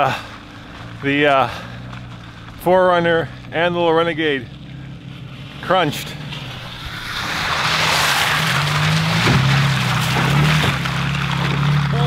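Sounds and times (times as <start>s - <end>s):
pickup truck engine hum: 0.0s - 12.0s
tyres splashing through mud: 0.0s - 12.0s.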